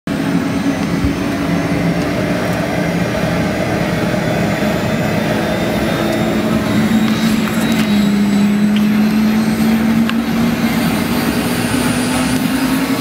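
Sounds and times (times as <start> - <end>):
helicopter engine and rotor: 0.1 - 13.0.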